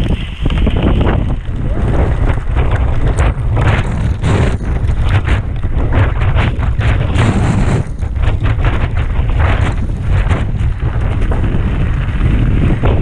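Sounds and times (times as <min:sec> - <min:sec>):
bike clattering over rough ground: 0:00.0 - 0:13.0
wind buffeting microphone: 0:00.0 - 0:13.0.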